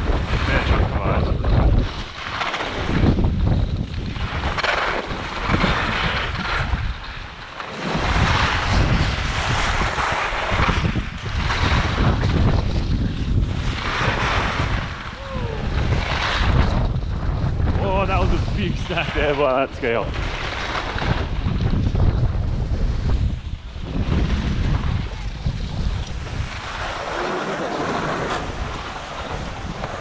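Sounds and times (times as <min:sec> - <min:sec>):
gusty wind buffeting microphone: 0:00.0 - 0:30.0.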